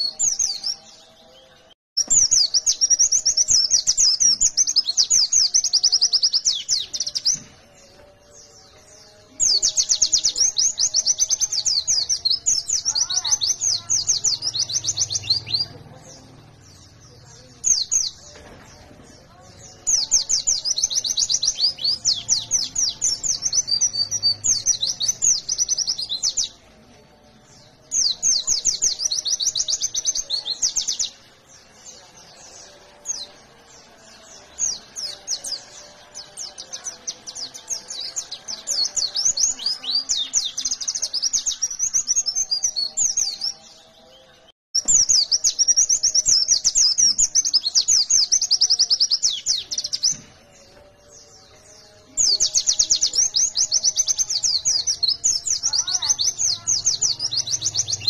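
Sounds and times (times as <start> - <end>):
bird twittering song: 0.0 - 58.0.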